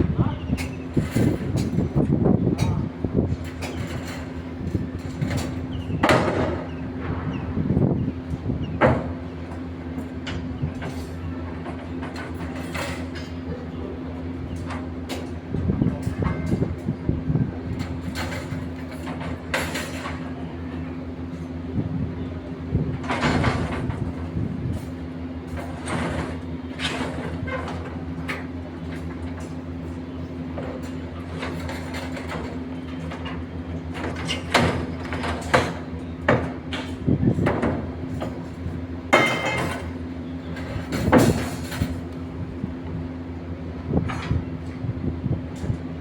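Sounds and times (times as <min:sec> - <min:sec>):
machine engine droning: 0:00.0 - 0:46.0.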